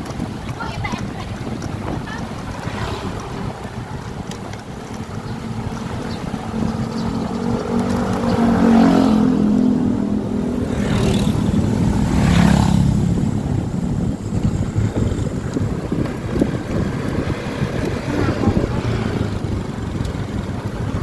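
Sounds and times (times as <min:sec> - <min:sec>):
motorcycle engine running: 0:00.0 - 0:21.0
road rumble: 0:00.0 - 0:21.0
wind on microphone: 0:00.0 - 0:21.0.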